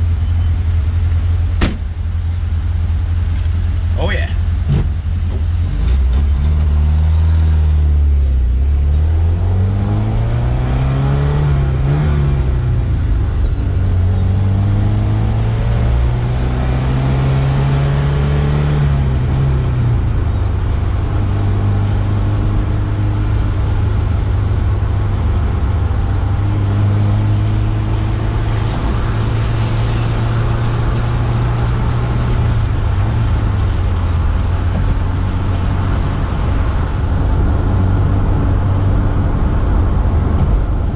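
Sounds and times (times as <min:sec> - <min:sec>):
car engine accelerating: 0:00.0 - 0:40.9
tyre and road noise: 0:00.0 - 0:40.9.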